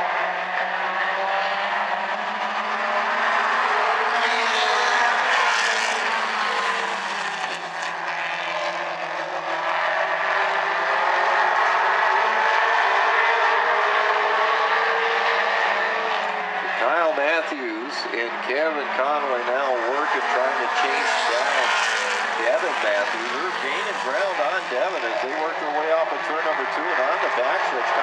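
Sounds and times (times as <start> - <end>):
race car engines at high revs: 0.0 - 28.0.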